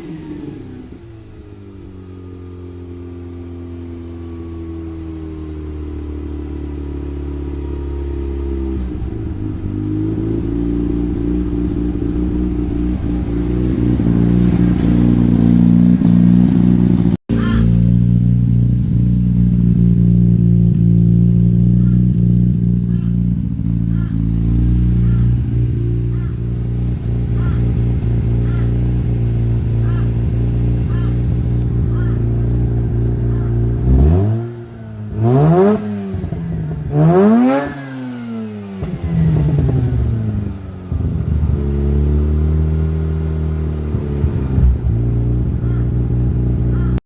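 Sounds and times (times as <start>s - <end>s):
rotary car engine running: 0.0s - 47.0s.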